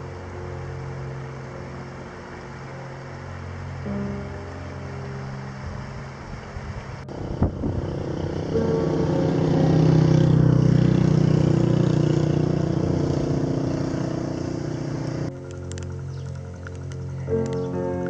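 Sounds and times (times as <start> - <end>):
vehicle engine passing: 0.0 - 18.0.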